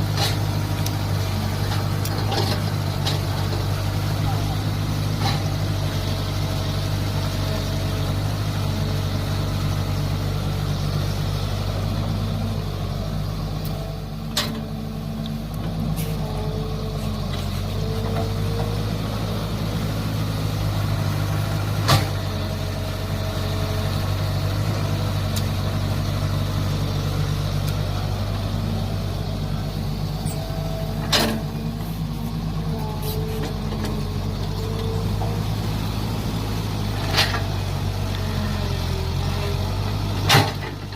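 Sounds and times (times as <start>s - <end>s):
excavator engine under load: 0.0s - 40.9s.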